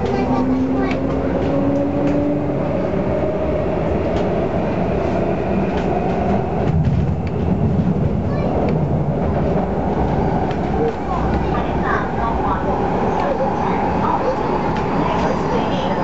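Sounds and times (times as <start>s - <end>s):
train wheel-on-rail rumble: 0.0s - 16.0s.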